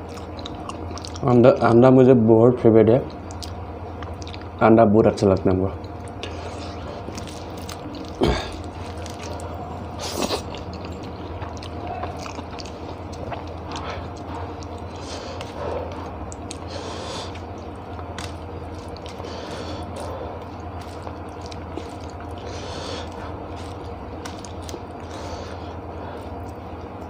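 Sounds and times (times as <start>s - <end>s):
person chewing: 0.0s - 1.4s, 3.1s - 4.6s, 5.8s - 27.0s
low steady hum: 0.0s - 27.0s.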